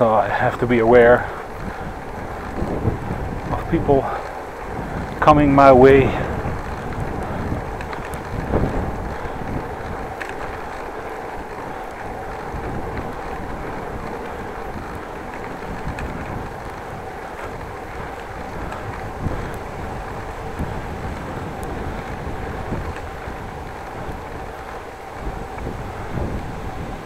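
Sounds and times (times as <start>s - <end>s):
bicycle tyres rolling on road: 0.0s - 27.0s
wind rush on microphone: 0.0s - 27.0s.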